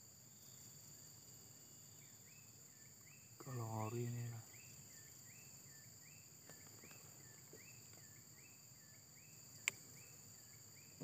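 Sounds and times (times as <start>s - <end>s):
insect buzz: 0.0s - 11.0s
insect chirp: 0.0s - 11.0s.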